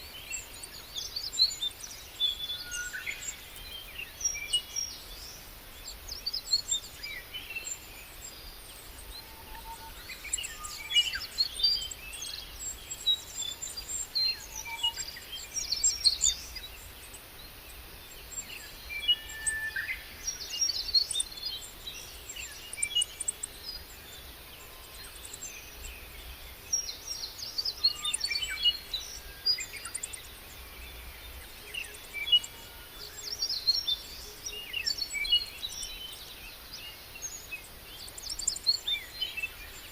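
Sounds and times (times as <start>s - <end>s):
outdoor background hiss: 0.0s - 39.9s
songbirds chirping and trilling: 0.0s - 39.9s.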